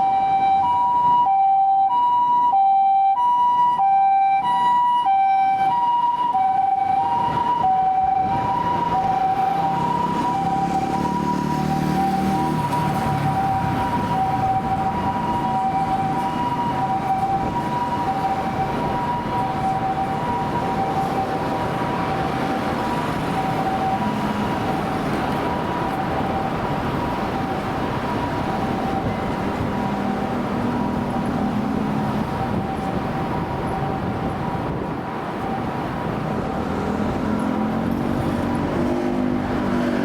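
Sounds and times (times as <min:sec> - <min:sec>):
traffic and engine noise: 0:00.0 - 0:40.0
two-tone ambulance siren: 0:00.0 - 0:40.0.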